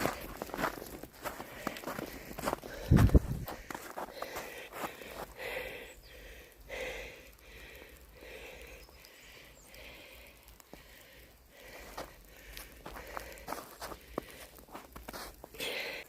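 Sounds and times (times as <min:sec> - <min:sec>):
person breathing: 0:00.0 - 0:16.0.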